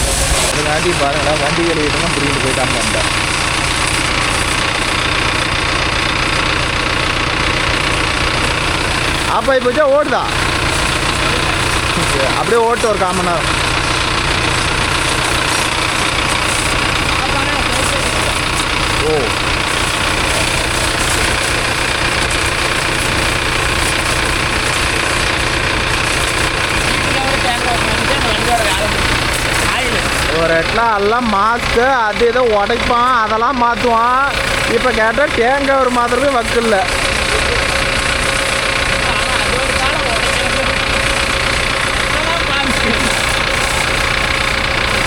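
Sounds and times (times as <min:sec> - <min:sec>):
tractor diesel engine idling: 0:00.0 - 0:45.0.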